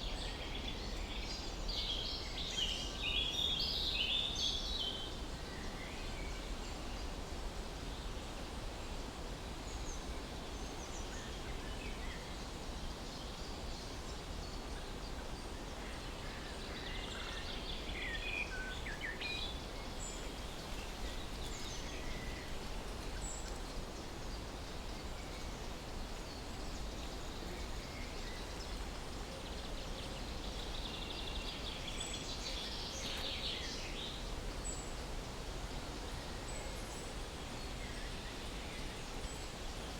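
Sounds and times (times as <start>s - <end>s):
outdoor ambience hiss and rumble: 0.0s - 39.9s.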